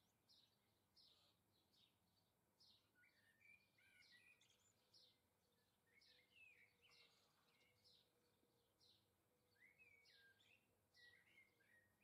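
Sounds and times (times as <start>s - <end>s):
songbird chirps and warbling: 0.0s - 12.0s.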